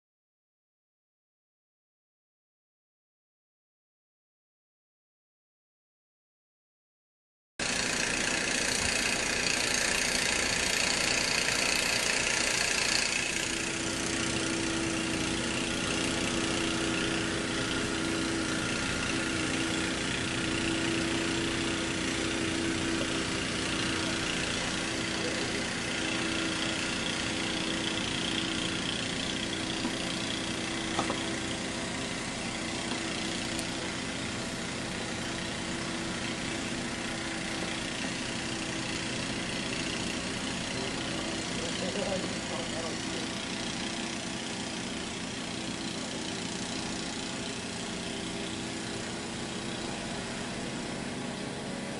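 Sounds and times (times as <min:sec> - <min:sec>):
engine running steadily: 0:07.6 - 0:51.9.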